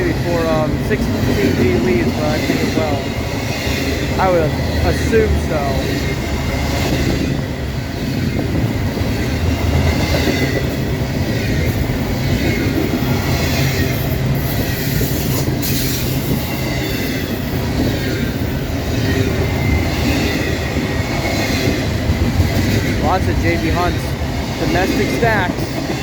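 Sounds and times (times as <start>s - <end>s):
freight train wheels rumbling: 0.0s - 26.0s
rail joints clickety-clack: 0.0s - 26.0s.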